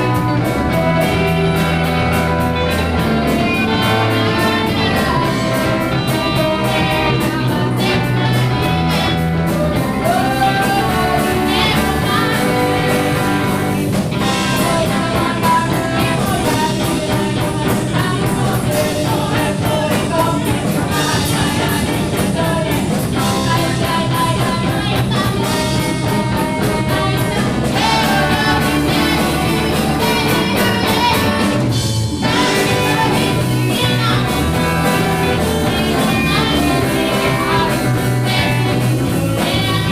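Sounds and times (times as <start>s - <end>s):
band music with guitar and drums: 0.0s - 39.9s.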